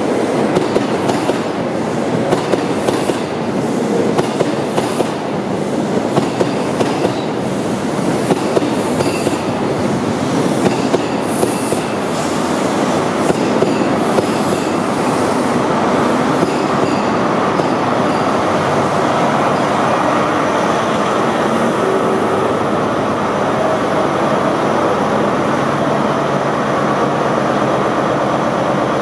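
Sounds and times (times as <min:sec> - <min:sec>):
train pulling into station: 0:00.0 - 0:29.0.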